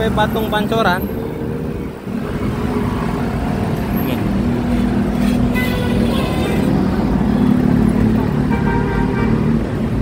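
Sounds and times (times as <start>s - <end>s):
scooter engines passing: 0.0s - 10.0s
traffic rumble: 0.0s - 10.0s.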